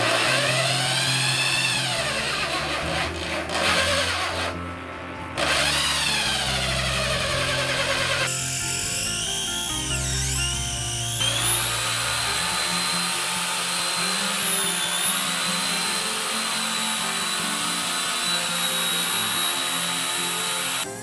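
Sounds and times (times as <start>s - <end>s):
belt sander motor whining: 0.0s - 21.0s.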